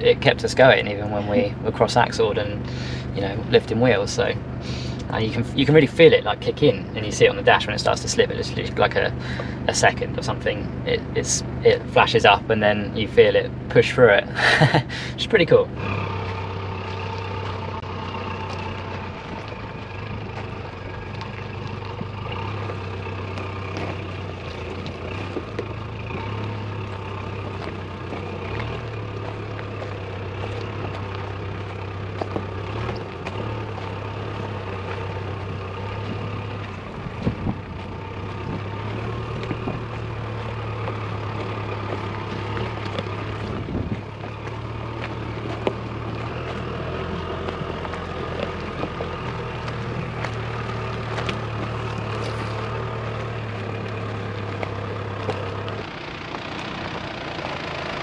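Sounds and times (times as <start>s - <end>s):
stones crunching under tyres: 0.0s - 58.0s
vehicle engine humming: 0.0s - 58.0s.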